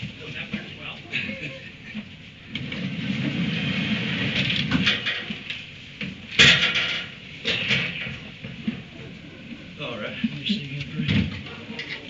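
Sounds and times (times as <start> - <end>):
rustling and scraping: 0.0 - 12.0.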